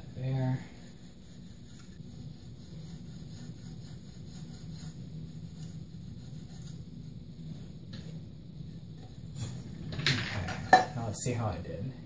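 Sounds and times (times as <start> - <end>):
pencil scratching on wood: 0.0 - 9.7
steady low hum: 0.0 - 12.0.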